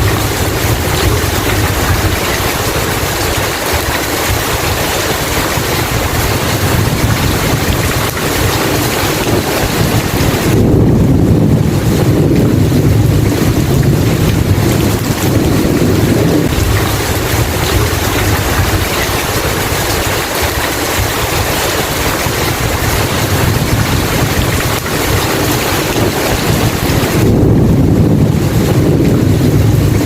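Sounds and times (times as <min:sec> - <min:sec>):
heavy rain falling: 0:00.0 - 0:30.0
thunder rumbling: 0:00.0 - 0:30.0.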